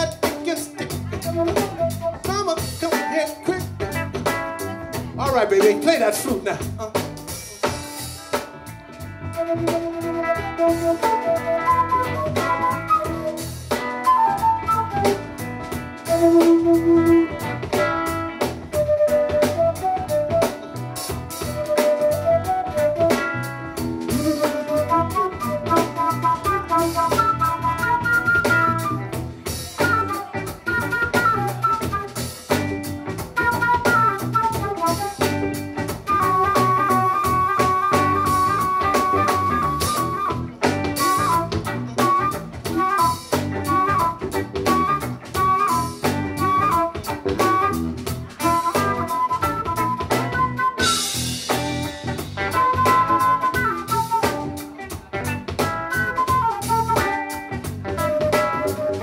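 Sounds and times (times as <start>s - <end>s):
funk band playing: 0.0s - 59.0s
flute solo: 0.8s - 4.0s, 9.2s - 59.0s.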